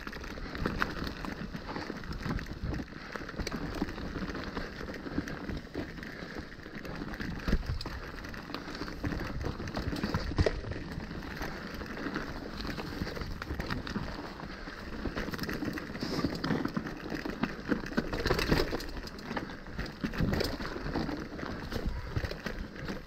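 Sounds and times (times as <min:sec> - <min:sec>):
bike rattling: 0:00.0 - 0:23.0
tyres crunching over gravel: 0:00.0 - 0:23.0.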